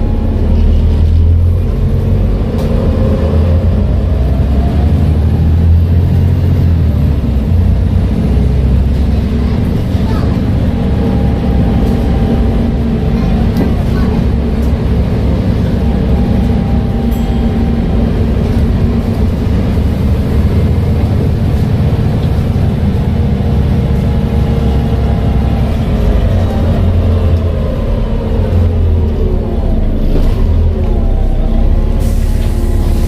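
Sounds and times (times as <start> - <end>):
bus engine drone: 0.0 - 33.0.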